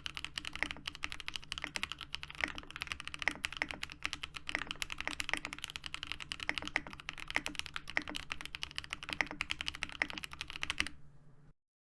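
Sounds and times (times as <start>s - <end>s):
fast mechanical keyboard typing: 0.0s - 11.0s.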